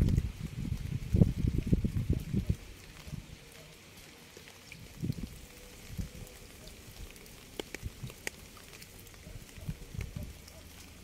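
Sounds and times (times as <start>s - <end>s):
rain hiss: 0.0s - 11.0s
raindrops ticking: 0.0s - 11.0s.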